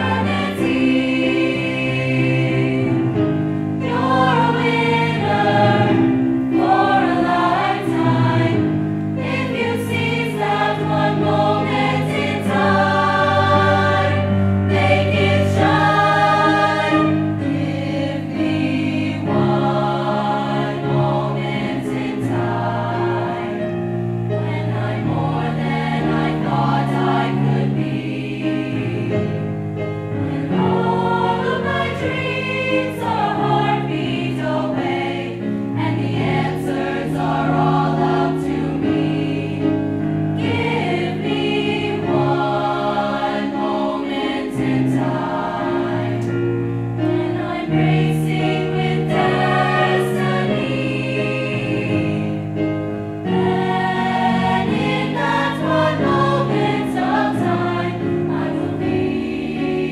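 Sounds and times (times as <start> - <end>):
mixed choir singing in parts: 0.0 - 59.9.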